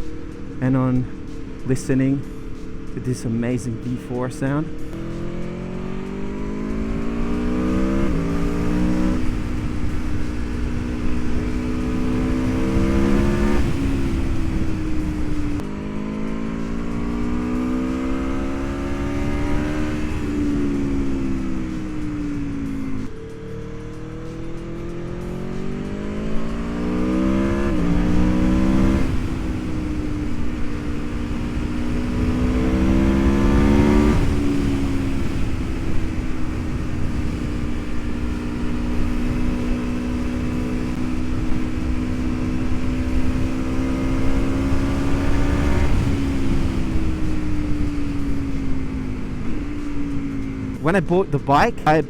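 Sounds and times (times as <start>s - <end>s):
low rush of riding wind: 0.0s - 52.0s
motorcycle engine accelerating: 0.0s - 52.0s.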